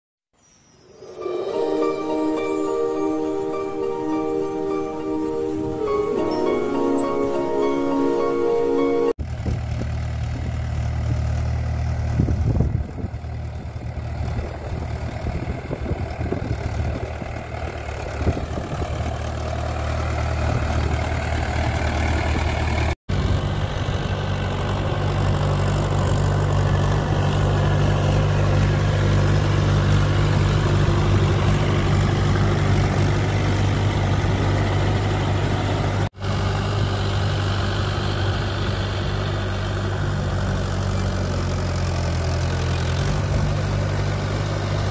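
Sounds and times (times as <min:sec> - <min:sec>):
tractor diesel engine running: 0:01.2 - 0:44.9.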